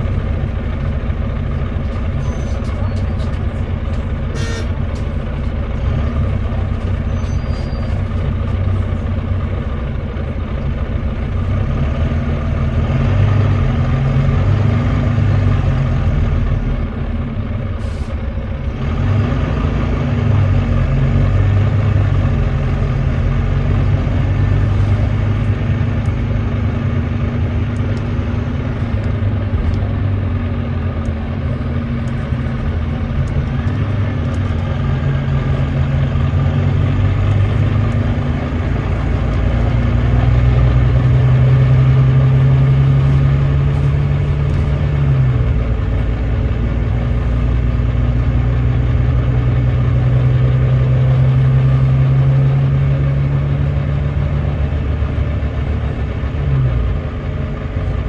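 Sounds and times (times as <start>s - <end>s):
bus diesel engine under load: 0.0s - 58.0s.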